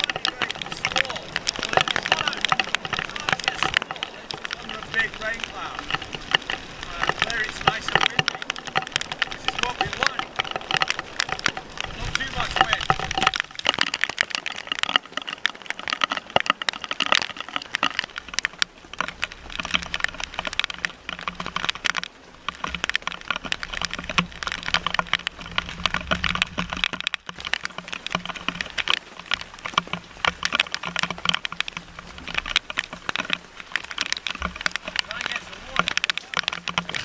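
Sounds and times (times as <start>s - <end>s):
heavy rain tapping on a boat: 0.0s - 37.0s.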